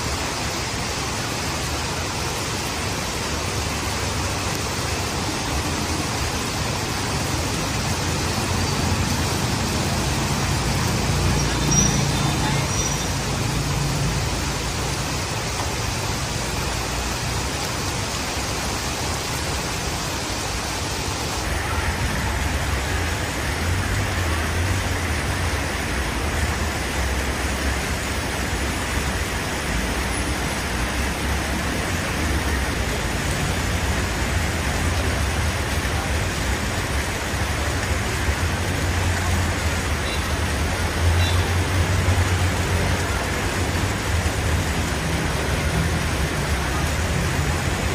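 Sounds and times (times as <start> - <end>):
road traffic: 0.0 - 47.9.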